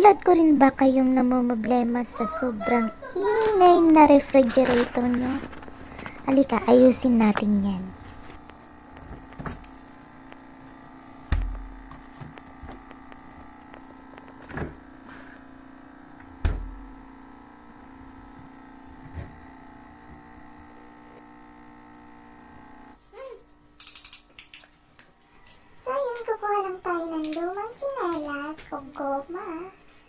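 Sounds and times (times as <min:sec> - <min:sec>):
refrigerator humming: 0:00.0 - 0:29.7.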